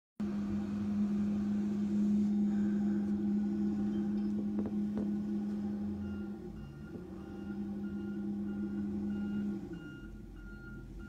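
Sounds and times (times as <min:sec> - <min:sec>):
loader engine humming: 0:00.2 - 0:11.0.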